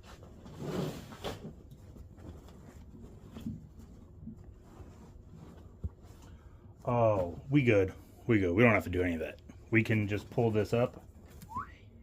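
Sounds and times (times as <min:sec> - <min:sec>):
faint handling noises: 0:00.0 - 0:11.6.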